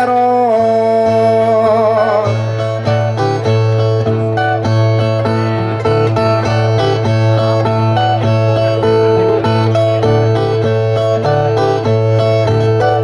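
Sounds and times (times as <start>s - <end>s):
steel-stringed guitars playing: 0.0s - 13.0s.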